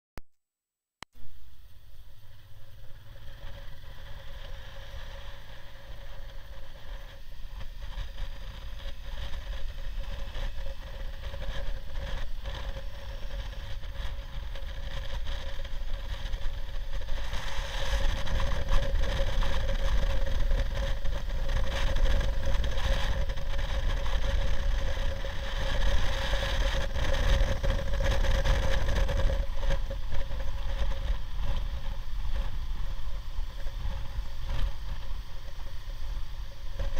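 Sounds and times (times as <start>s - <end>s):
motorcycle engine hum: 1.0s - 36.9s
wind rush and buffeting: 1.6s - 36.9s.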